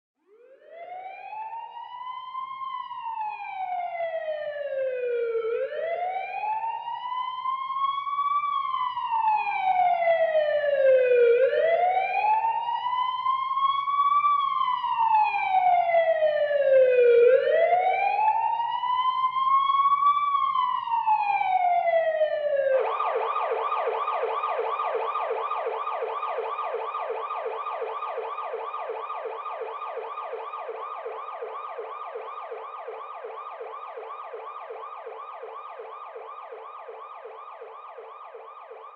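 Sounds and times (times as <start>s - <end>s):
ambulance siren: 0.2s - 38.9s.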